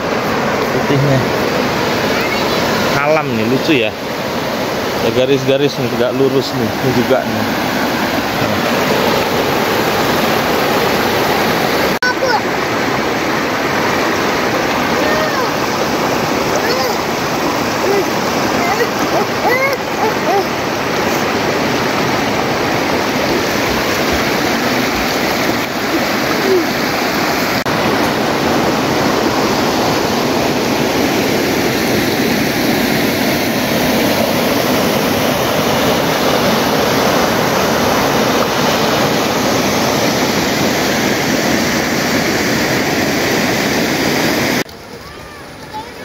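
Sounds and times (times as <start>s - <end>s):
river rushing over rocks: 0.0s - 46.0s.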